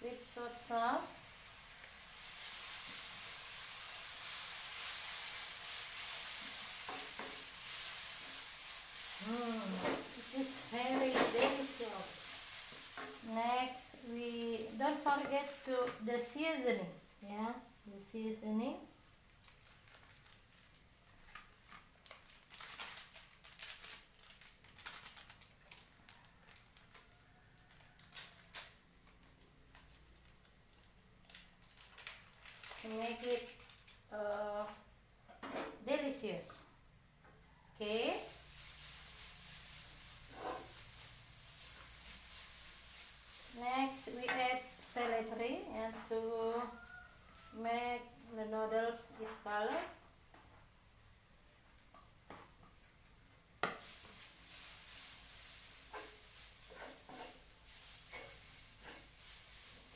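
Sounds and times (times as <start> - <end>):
noodles sizzling in hot oil: 0.0 - 34.9, 37.6 - 59.9.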